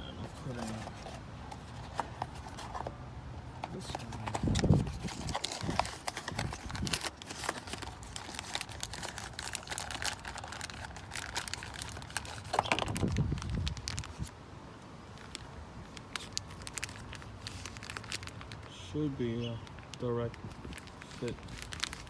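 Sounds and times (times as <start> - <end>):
packaging crinkling and rustling: 0.0 - 14.4, 15.1 - 22.0.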